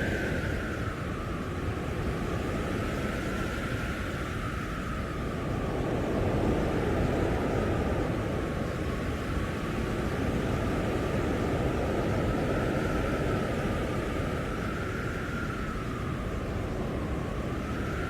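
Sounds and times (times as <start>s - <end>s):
blizzard wind rushing: 0.0s - 18.0s
faint howling wind whistle: 0.0s - 18.0s.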